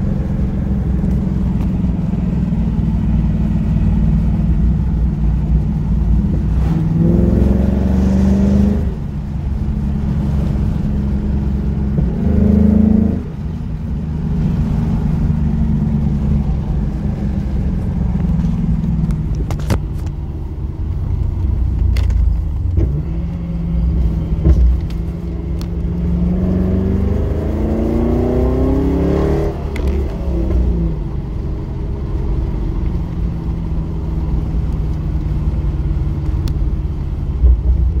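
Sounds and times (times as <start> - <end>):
car engine droning: 0.0 - 38.0.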